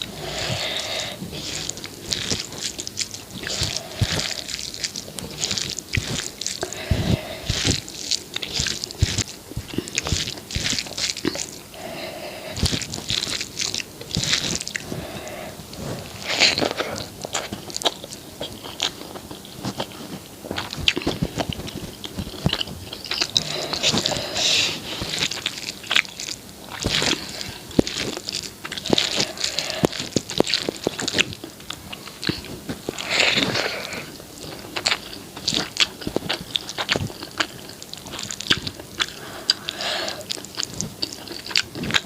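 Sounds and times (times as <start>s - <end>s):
food crunching: 0.0s - 42.0s
person chewing food: 0.0s - 42.0s.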